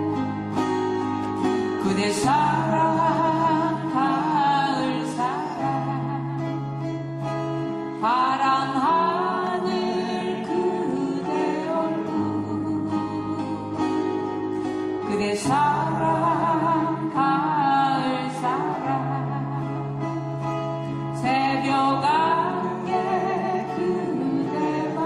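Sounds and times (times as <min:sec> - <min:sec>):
acoustic guitars playing: 0:00.0 - 0:25.0
person singing: 0:00.0 - 0:25.0.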